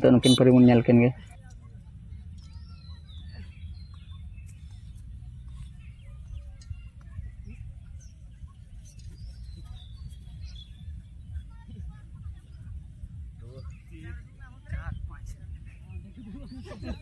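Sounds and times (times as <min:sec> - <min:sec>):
bird chirps and calls: 0:00.1 - 0:17.0.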